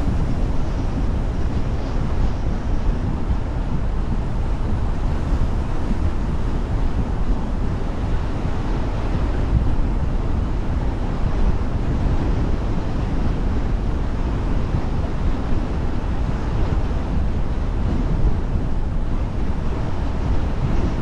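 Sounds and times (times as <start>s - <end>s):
car wind and road noise: 0.0s - 21.0s.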